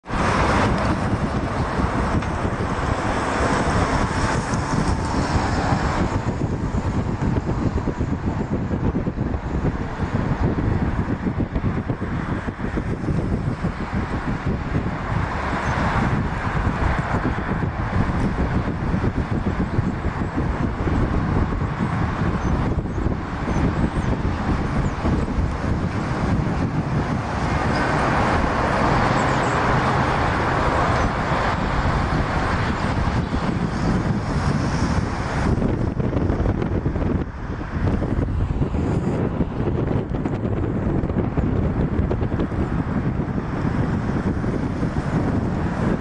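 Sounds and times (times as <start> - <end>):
diesel locomotives approaching: 0.0 - 9.0, 14.2 - 42.5
road traffic rumble: 0.0 - 46.0.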